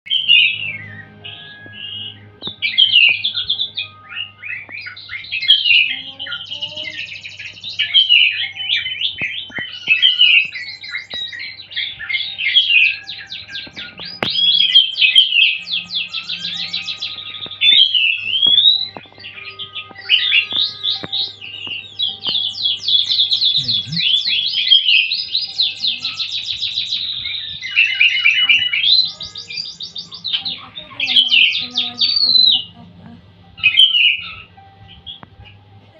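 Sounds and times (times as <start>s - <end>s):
songbirds singing: 0.0s - 35.9s.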